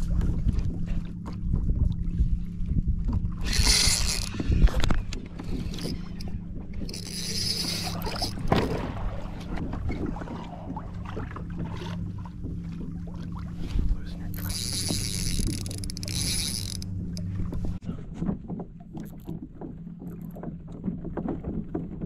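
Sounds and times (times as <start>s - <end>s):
steady low hum: 0.0s - 20.8s
water lapping on kayak hull: 0.0s - 22.0s.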